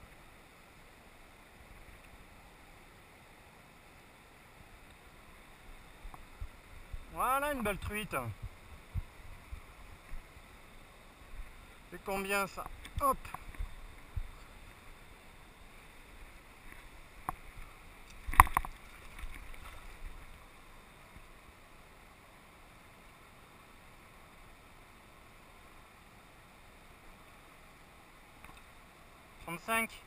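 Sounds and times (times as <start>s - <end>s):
mountain river rushing: 0.0s - 30.0s.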